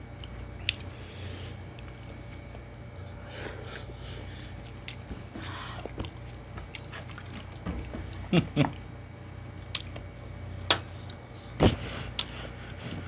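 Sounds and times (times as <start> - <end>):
people chewing and lip smacking: 0.0 - 1.0, 1.6 - 8.8, 9.5 - 12.6
steady low hum: 0.0 - 13.0.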